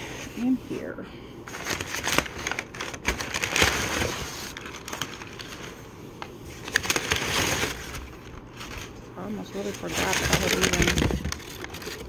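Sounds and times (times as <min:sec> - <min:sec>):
packing paper rustling: 0:01.4 - 0:12.0.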